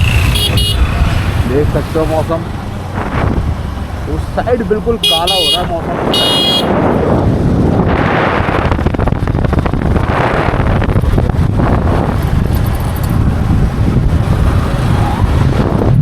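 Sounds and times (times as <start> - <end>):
vehicle running on road: 0.0 - 16.0
wind rumbling on microphone: 0.0 - 16.0.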